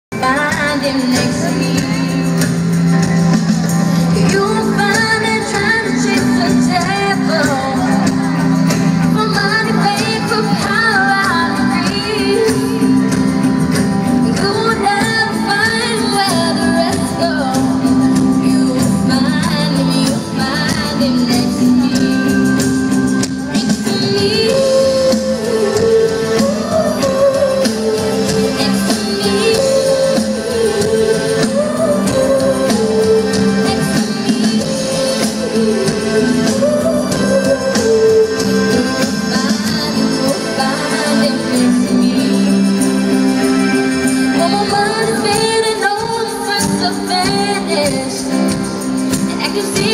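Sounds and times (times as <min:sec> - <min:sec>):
live pop band with singing: 0:00.1 - 0:49.9.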